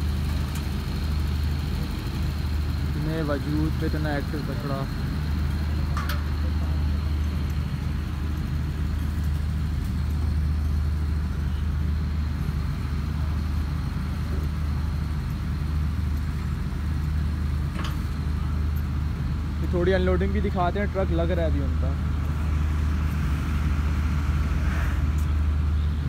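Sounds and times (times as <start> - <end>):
large engine idling: 0.0 - 26.0.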